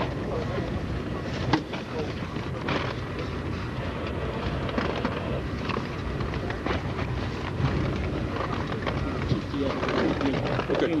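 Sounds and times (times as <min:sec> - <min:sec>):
train coach rumbling on track: 0:00.0 - 0:11.0.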